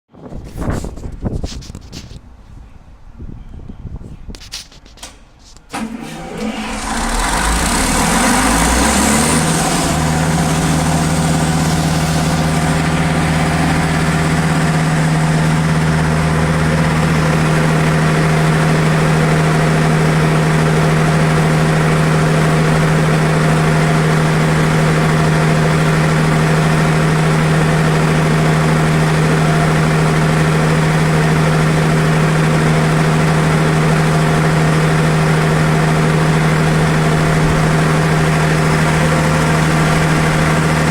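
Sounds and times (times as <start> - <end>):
diesel generator engine running: 5.6 - 40.9.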